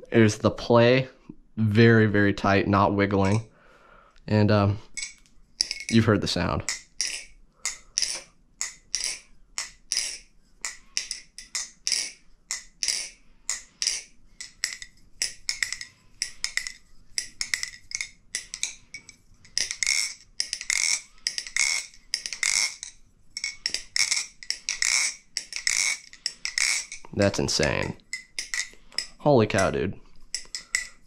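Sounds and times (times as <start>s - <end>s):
balisong trainer handles clacking: 4.9s - 31.0s.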